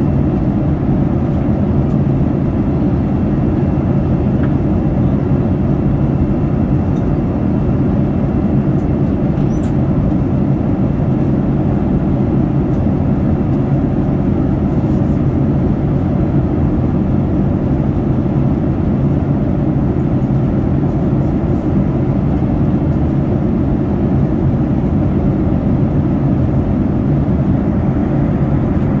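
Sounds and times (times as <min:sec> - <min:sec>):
airplane cabin engine rush: 0:00.0 - 0:29.0.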